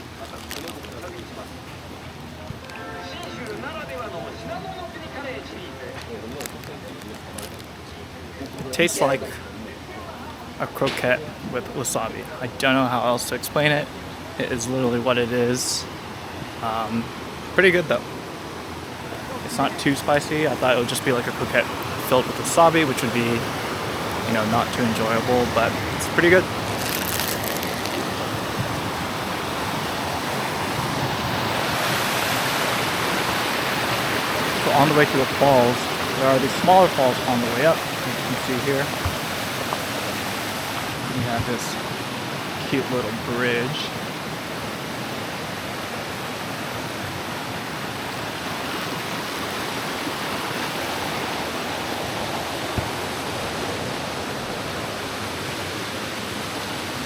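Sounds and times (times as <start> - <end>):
water rushing in stream: 0.0 - 57.0.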